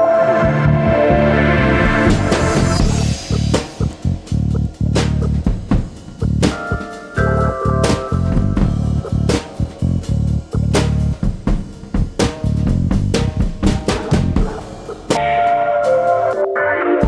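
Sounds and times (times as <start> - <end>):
band music with drums and guitar: 0.6 - 16.6.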